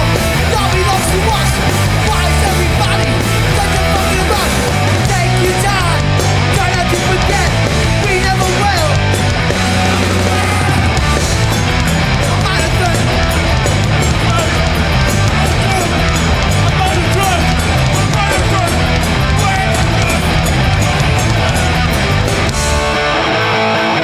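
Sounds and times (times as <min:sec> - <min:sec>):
bass guitar: 0:00.0 - 0:24.0
distorted electric guitars: 0:00.0 - 0:24.0
fast drums: 0:00.0 - 0:24.0.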